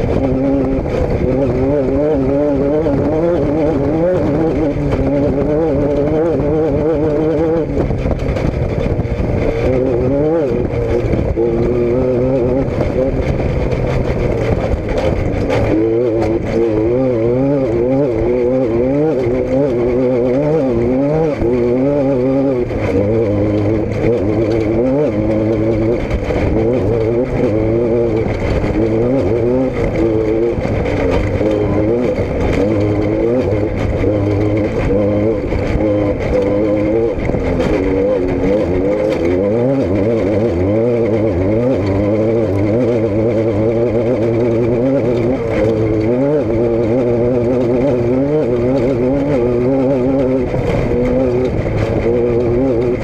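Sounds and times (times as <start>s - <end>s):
steady low drone: 0.0s - 53.0s
vehicle engine running: 0.0s - 53.0s.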